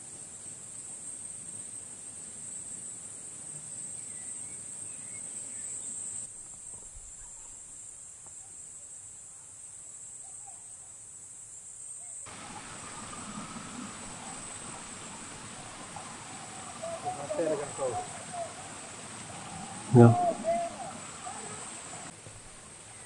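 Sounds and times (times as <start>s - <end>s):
insects stridulating: 0.0s - 23.0s.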